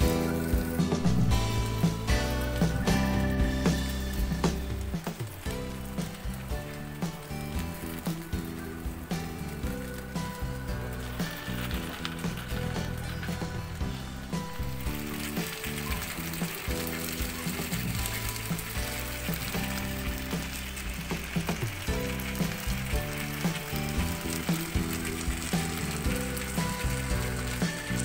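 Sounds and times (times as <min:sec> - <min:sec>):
background music: 0:00.0 - 0:28.0
sauce sizzling on hot plate: 0:00.0 - 0:28.0.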